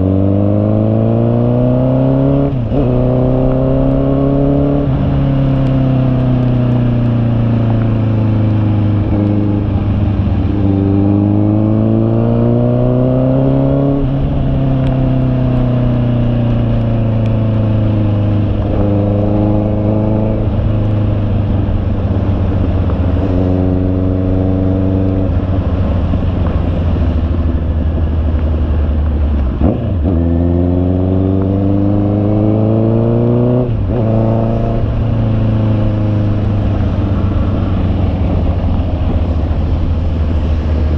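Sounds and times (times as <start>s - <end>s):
motorcycle engine revving under load: 0.0s - 40.9s.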